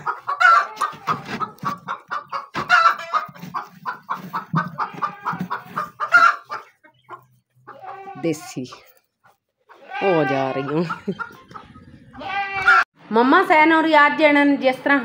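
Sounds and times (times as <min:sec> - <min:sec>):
hen clucking: 0:00.0 - 0:12.9.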